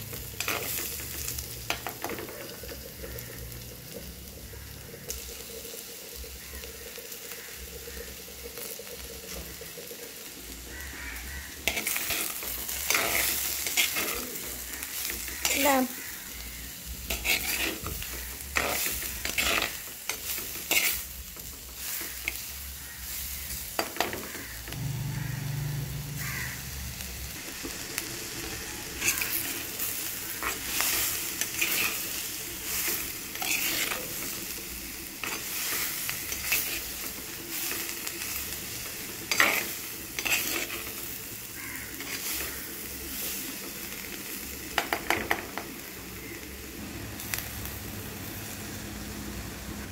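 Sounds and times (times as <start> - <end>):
vegetables sizzling in hot oil: 0.0 - 49.9.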